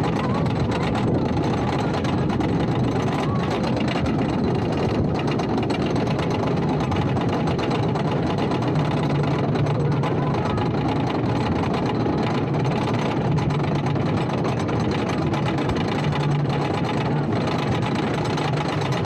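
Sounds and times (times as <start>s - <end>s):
roller coaster rattling on track: 0.0s - 19.0s.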